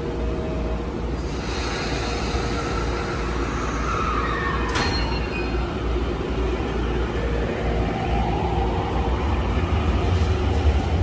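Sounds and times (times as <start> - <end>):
subway train motors humming: 0.0 - 11.0.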